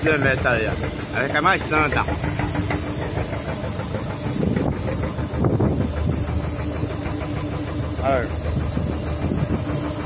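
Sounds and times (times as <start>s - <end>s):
boat engine running: 0.0s - 10.0s
hiss of wind and water: 0.0s - 10.0s.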